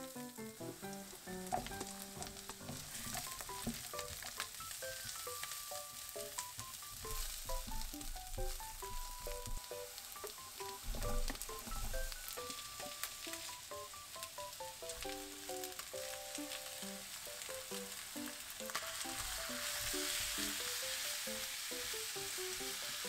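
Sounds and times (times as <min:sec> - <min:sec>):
food sizzling in a pan: 0:00.0 - 0:23.0
light background music: 0:00.0 - 0:23.0.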